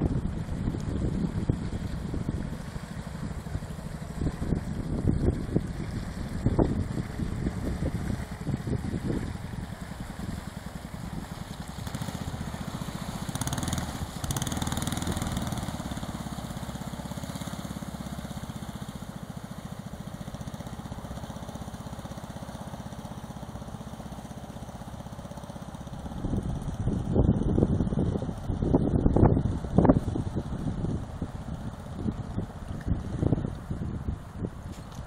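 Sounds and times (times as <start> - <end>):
small boat engine running: 0.0 - 35.0.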